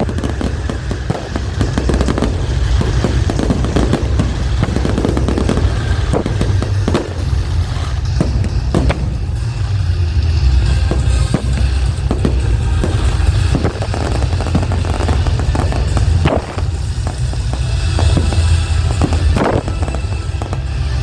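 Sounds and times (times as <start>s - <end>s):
fireworks bangs and crackling: 0.0s - 21.0s
steady low rumble: 0.0s - 21.0s.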